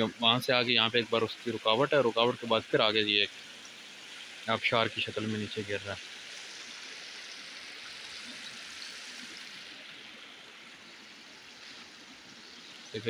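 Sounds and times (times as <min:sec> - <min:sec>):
water spilling over weir: 0:00.0 - 0:13.0.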